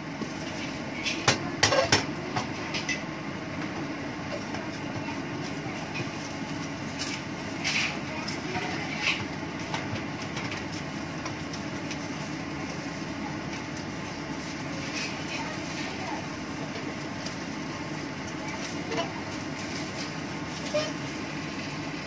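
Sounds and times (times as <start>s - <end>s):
range hood fan rumble: 0.0s - 22.0s.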